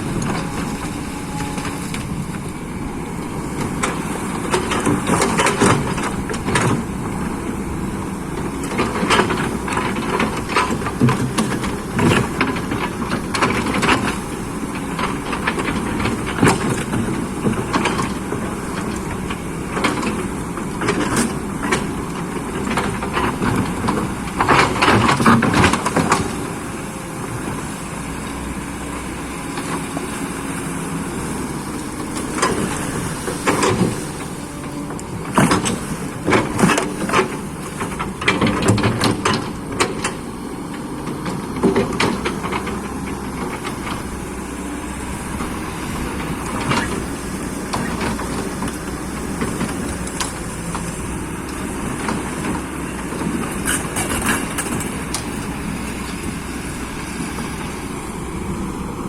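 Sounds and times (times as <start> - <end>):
excavator engine running: 0.0 - 59.0.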